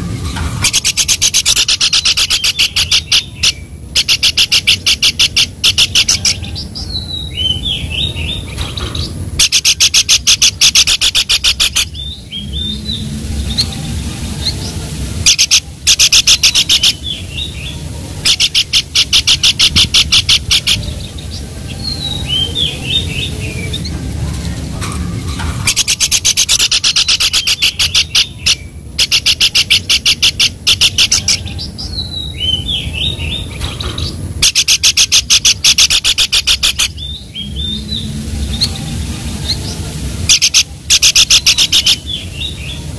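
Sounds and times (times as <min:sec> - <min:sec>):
songbird chattering: 0:00.6 - 0:13.8, 0:14.4 - 0:23.9, 0:25.6 - 0:42.9.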